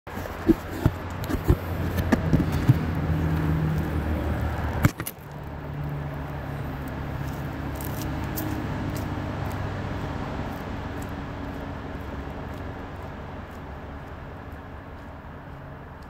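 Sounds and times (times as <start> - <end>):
low rumble of passing vehicle: 0.1 - 16.0.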